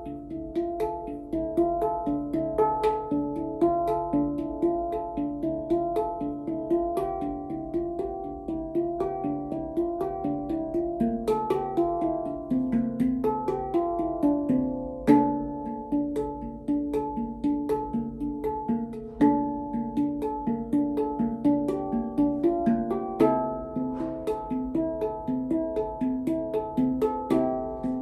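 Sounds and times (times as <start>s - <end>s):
handpan played by hand: 0.0s - 28.0s.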